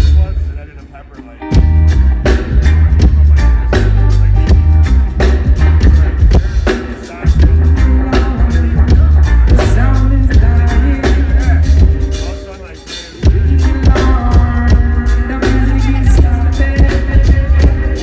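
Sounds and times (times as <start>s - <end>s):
heavy bass line: 0.0s - 0.8s, 1.5s - 18.0s
drum kit: 0.0s - 18.0s
reggae band playing: 0.0s - 18.0s.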